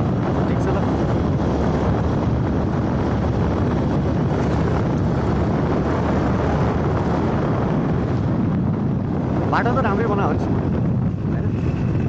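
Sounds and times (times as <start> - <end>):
vehicle rumbling along road: 0.0 - 12.0
wind buffeting microphone: 0.0 - 12.0.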